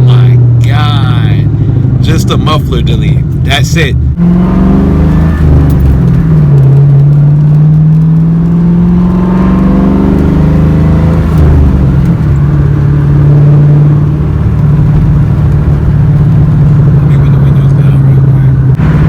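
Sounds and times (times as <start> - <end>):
loud car engine drone: 0.0 - 19.0.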